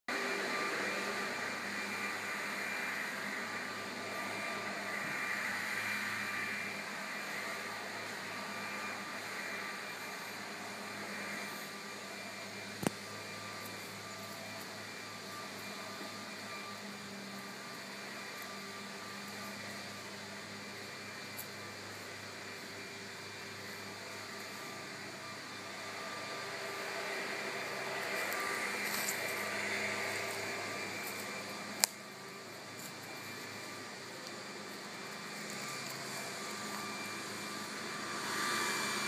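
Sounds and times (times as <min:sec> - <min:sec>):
mechanical hum with whine: 0:00.1 - 0:39.0.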